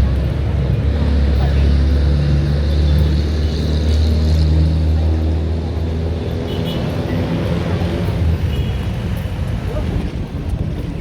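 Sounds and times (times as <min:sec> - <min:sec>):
city background noise: 0:00.0 - 0:11.0.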